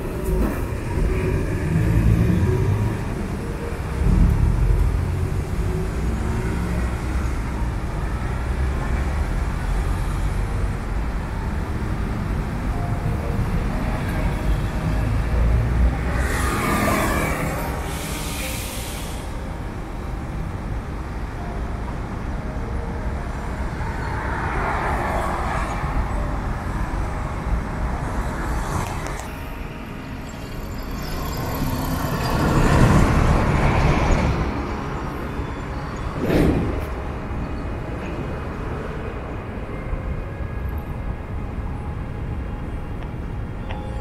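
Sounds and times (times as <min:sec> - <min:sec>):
road traffic rumble: 0:00.0 - 0:44.0
vehicles passing: 0:00.0 - 0:44.0.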